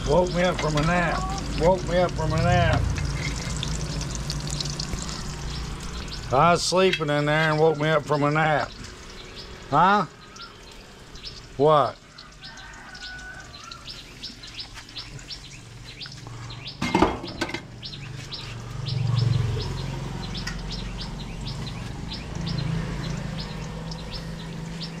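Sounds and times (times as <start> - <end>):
small bird chirping: 3.0 - 25.0.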